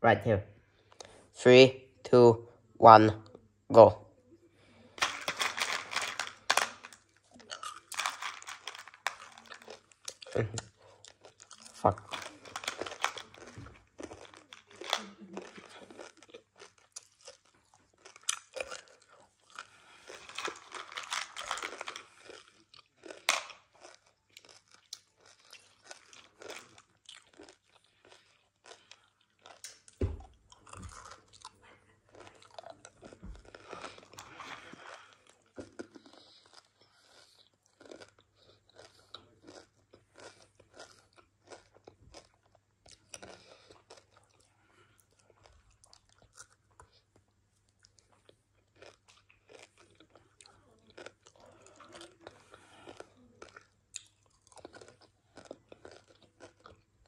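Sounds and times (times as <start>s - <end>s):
candy being crunched and chewed: 4.9s - 57.0s.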